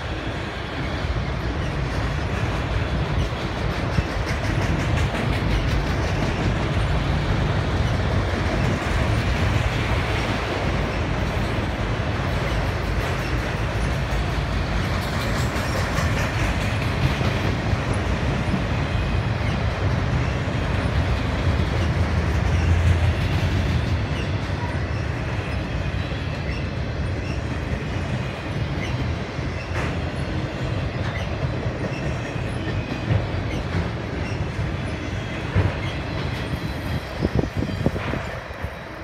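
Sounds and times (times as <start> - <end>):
freight cars rumbling on rails: 0.0 - 39.0.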